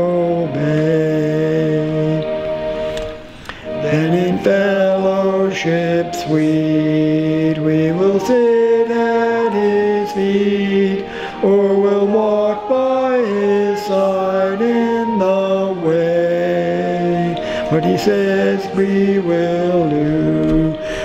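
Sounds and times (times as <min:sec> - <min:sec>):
man singing slow melody: 0:00.0 - 0:21.0.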